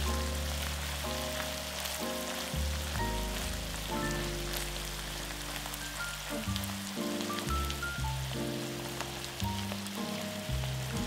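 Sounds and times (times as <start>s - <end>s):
background music with bass: 0.0s - 11.0s
food frying in oil: 0.0s - 11.0s.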